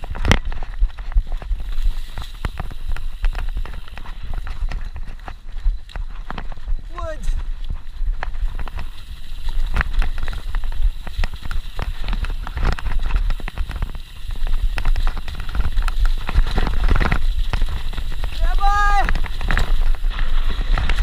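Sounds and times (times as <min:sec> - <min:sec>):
mountain bike rattling on trail: 0:00.0 - 0:21.0
wind buffeting microphone: 0:00.0 - 0:21.0.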